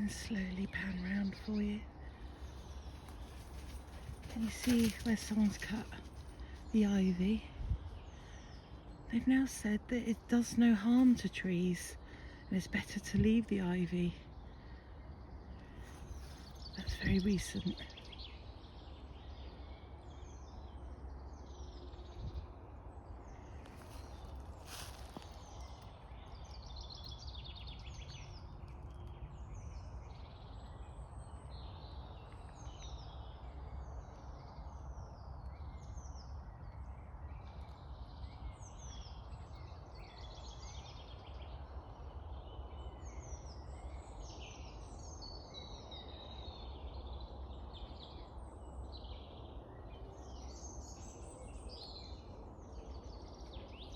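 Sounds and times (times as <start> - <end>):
steady low rumble: 0.0 - 45.2
birds singing and calling: 0.0 - 53.9.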